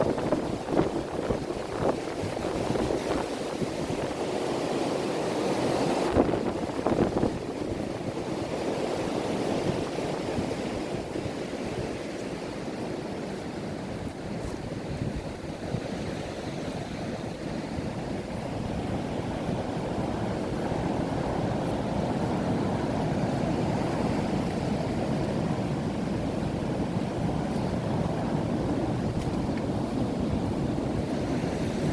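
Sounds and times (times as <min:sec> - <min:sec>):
strong wind buffeting microphone: 0:00.0 - 0:31.9.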